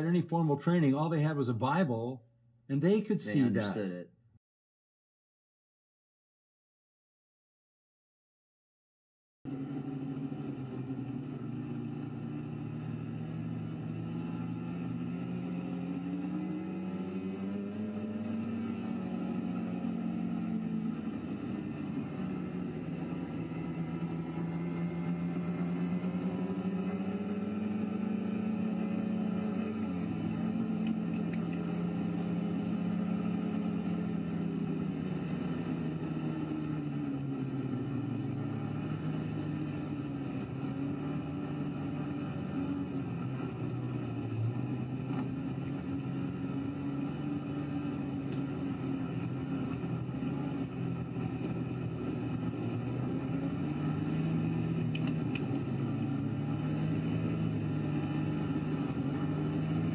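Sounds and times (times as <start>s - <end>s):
snowmobile engine running: 3.2s - 3.8s, 9.5s - 59.9s.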